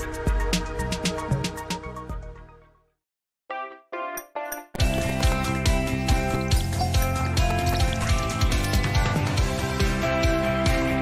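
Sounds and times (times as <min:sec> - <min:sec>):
background music with steady beat: 0:00.0 - 0:02.5, 0:04.0 - 0:11.0.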